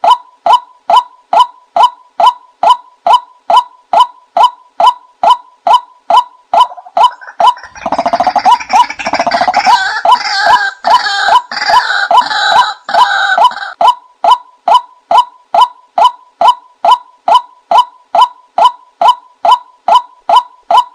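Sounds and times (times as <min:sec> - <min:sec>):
bird calls: 0:00.0 - 0:20.9
higher overlapping bird calling: 0:00.0 - 0:20.9.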